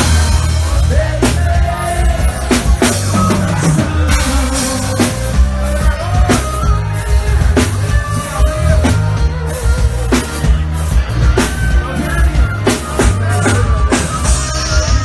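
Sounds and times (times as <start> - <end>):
drum kit beat: 0.0 - 15.0
heavy bass line: 0.0 - 15.0
live band music: 0.0 - 15.0.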